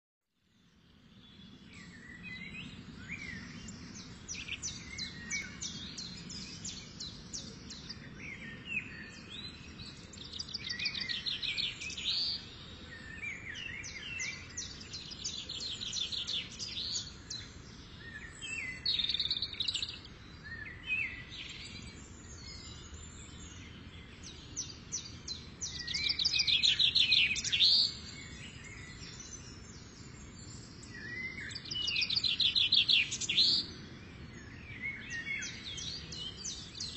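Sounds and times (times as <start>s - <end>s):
birds chirping and singing: 1.2s - 36.9s.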